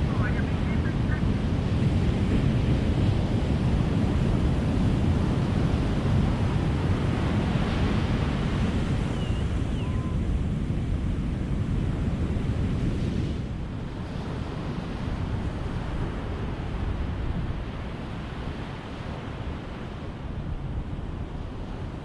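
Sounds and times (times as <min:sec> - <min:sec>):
ocean surf breaking on beach: 0:00.0 - 0:22.0.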